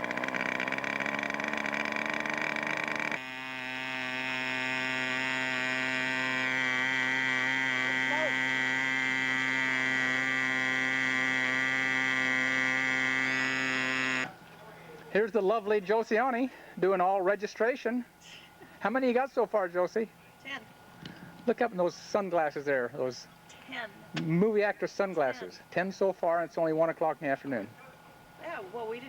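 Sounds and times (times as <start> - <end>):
model aircraft engine droning: 0.0 - 23.8.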